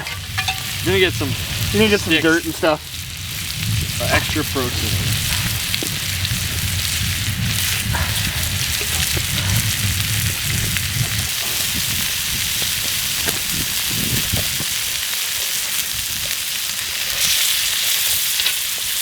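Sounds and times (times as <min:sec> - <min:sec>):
campfire crackles: 0:00.0 - 0:19.0
food sizzling in a pan: 0:00.0 - 0:19.0.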